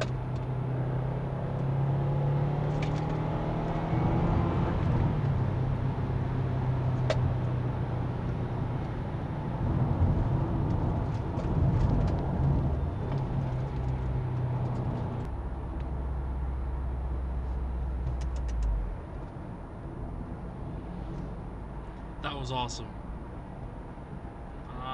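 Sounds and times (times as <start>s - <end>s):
car engine cruising: 0.0s - 24.9s
tyre and road noise: 0.0s - 24.9s.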